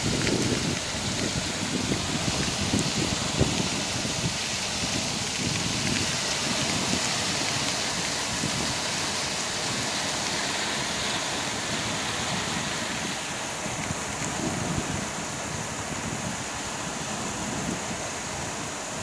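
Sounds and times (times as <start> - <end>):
rain: 0.0 - 19.0
waves breaking: 0.0 - 19.0
wind on microphone: 0.0 - 19.0.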